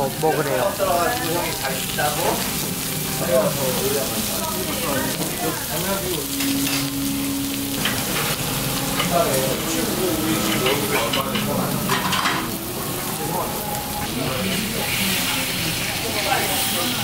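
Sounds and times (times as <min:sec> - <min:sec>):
meat sizzling on grill pan: 0:00.0 - 0:17.0.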